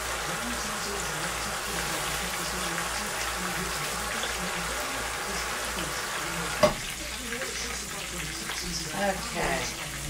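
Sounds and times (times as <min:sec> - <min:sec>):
fish frying in hot oil: 0:00.0 - 0:10.0.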